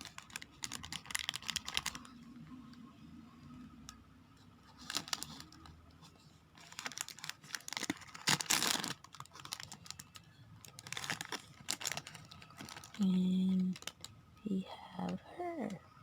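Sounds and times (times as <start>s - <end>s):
plastic wrapping crinkling: 0.0s - 2.3s, 4.7s - 15.8s.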